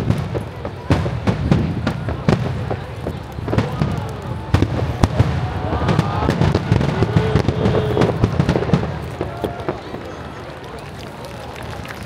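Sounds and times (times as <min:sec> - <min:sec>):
fireworks bangs: 0:00.0 - 0:11.9.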